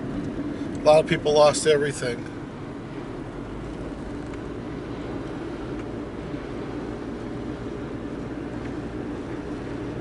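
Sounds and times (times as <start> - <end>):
car driving rumble: 0.0 - 10.0.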